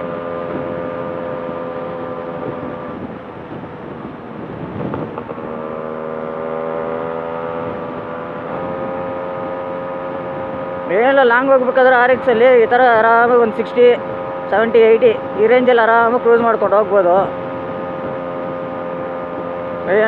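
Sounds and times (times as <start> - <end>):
two-stroke motorcycle engine running: 0.0 - 20.0.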